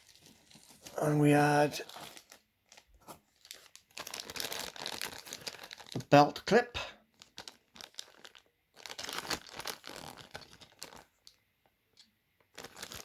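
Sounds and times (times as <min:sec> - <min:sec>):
packaging crinkling and rustling: 0:00.0 - 0:06.1, 0:07.0 - 0:13.0.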